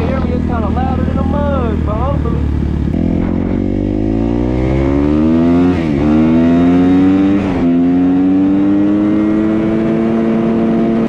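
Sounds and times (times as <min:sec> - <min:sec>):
off-road vehicle engine accelerating: 0:00.0 - 0:11.0.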